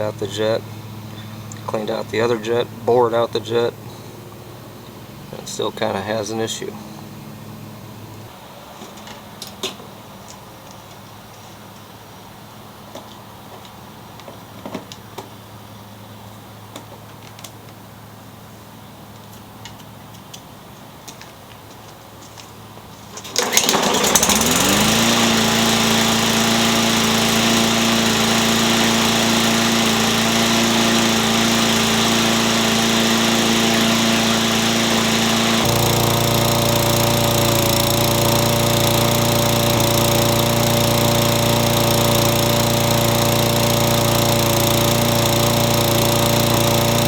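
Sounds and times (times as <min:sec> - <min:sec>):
lawn mower engine starting and running: 0:00.0 - 0:14.5, 0:22.6 - 0:47.0.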